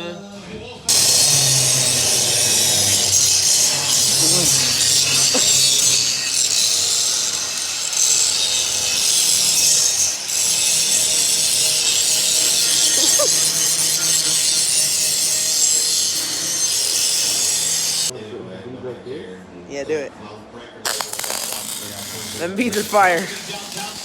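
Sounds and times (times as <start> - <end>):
angle grinder grinding steel: 0.9 - 18.1, 20.9 - 24.0.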